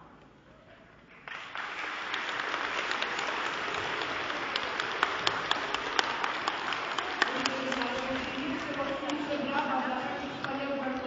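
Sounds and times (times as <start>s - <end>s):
crowd applauding: 1.1s - 10.5s.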